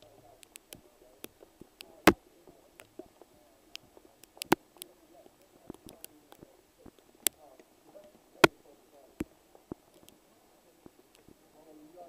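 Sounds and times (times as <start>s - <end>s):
faint clicks: 0.0s - 11.4s
distant voices: 0.0s - 12.0s.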